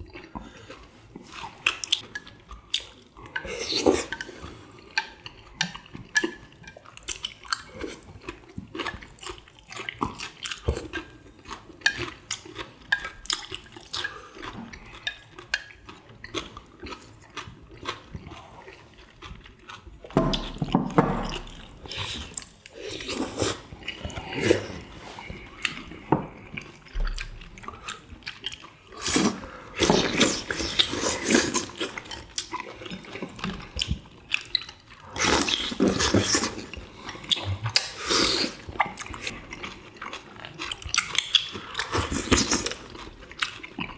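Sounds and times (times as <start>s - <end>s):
wet chewing and slurping: 0.0s - 43.9s.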